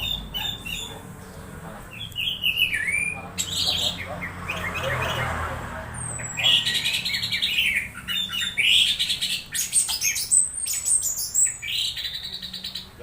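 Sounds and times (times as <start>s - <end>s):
thrush singing chirps and warbles: 0.0s - 13.0s.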